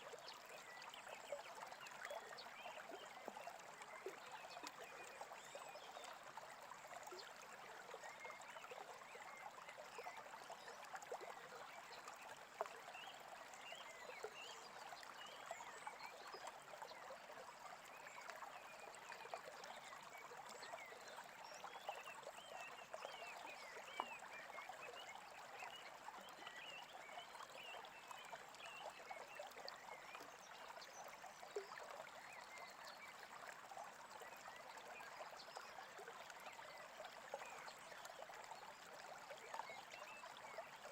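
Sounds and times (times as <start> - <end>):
stream babbling: 0.1 - 40.9.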